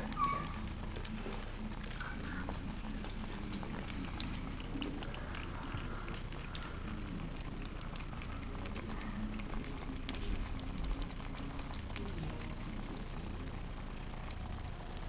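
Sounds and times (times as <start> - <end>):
puppies lapping food: 0.0 - 15.0.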